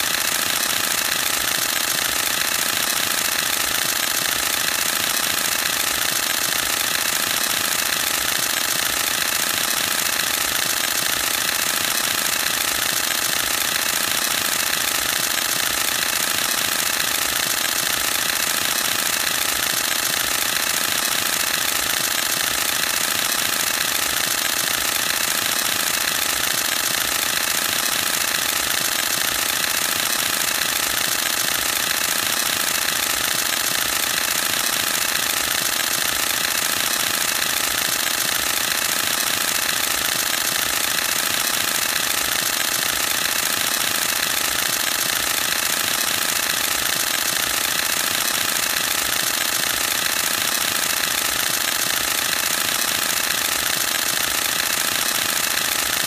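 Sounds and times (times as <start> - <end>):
camera shutter rapid burst: 0.0 - 56.0.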